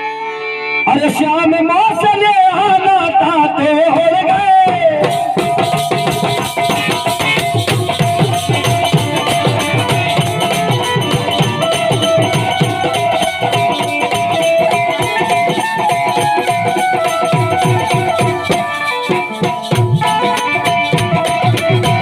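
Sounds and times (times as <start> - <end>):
fast drum rhythm: 1.7 - 22.0.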